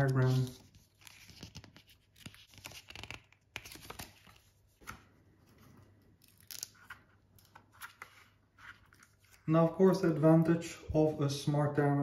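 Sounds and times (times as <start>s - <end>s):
paper pages rustling: 0.0s - 10.2s.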